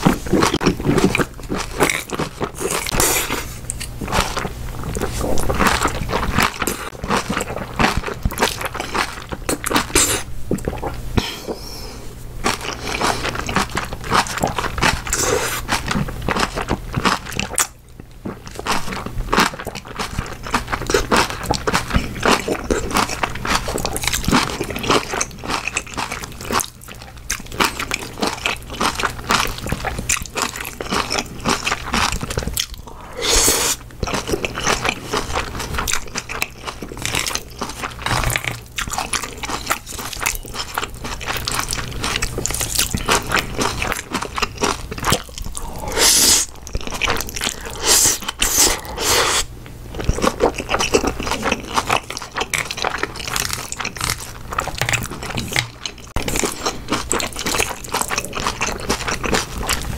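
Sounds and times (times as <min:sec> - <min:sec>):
chewing noodles: 0:00.0 - 0:11.0, 0:12.4 - 0:59.9.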